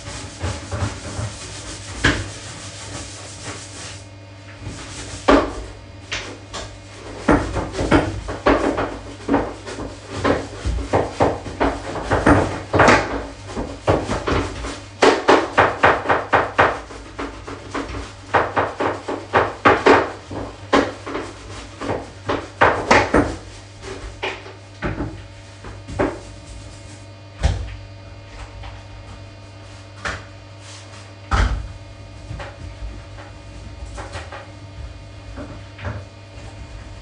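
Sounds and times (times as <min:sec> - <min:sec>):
scrubbing against a bathtub: 0:00.0 - 0:37.0
steady low hum: 0:00.0 - 0:37.0.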